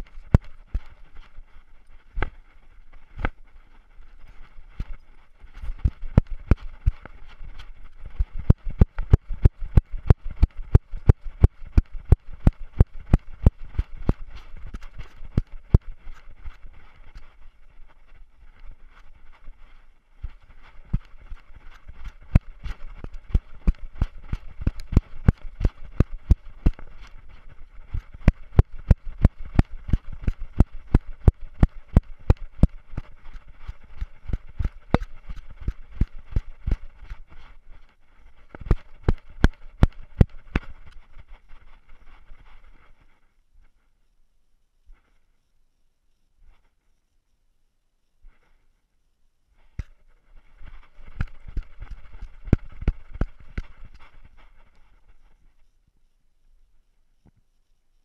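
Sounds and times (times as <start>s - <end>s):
rhythmic knocks of running dog camera: 0.0s - 43.8s, 49.8s - 55.8s.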